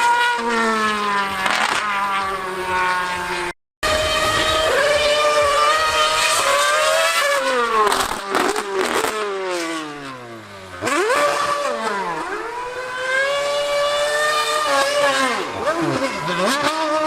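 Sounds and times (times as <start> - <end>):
racing car engine at high revs: 0.0 - 17.0.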